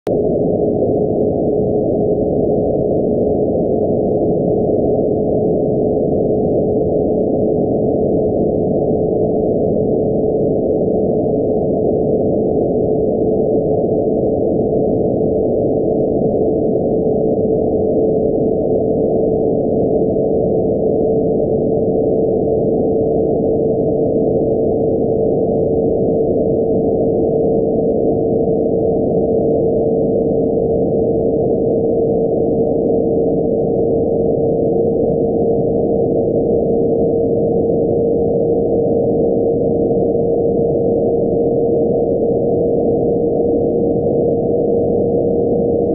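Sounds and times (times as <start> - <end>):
steady whistle-like radio tone: 0.1 - 45.9.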